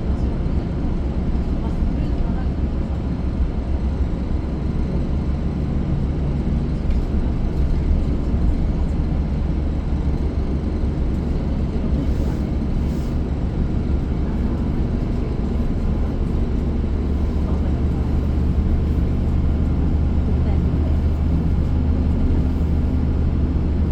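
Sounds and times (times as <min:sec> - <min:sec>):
bus rumbling from inside: 0:00.0 - 0:23.9.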